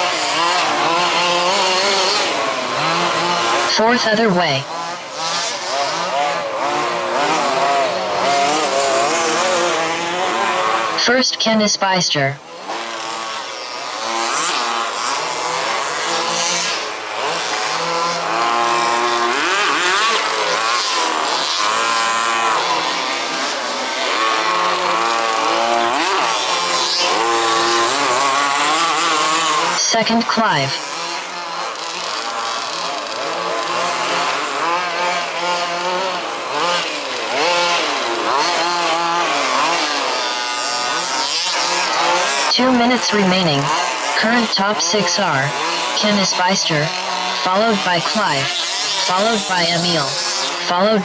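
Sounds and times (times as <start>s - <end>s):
rc buggy engines revving: 0.0s - 11.8s, 12.4s - 51.0s.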